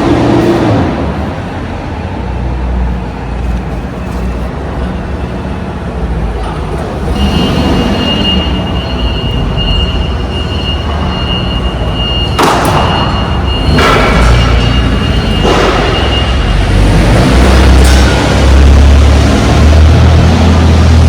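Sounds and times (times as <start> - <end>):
heavy truck engine rumble: 0.0 - 21.0.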